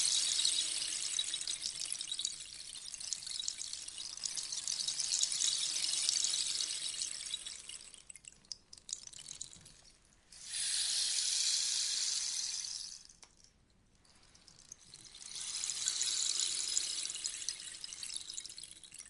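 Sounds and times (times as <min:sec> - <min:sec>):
rainstick pellets trickling: 0:00.0 - 0:19.0.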